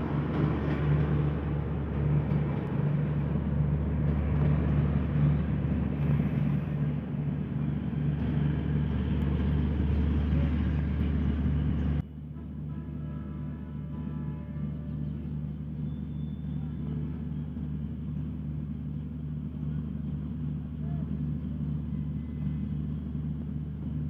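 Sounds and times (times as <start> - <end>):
train running along track: 0.0 - 24.0.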